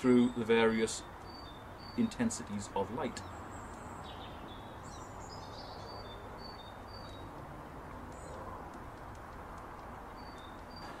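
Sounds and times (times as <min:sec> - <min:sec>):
faint background noise: 0:00.0 - 0:11.0.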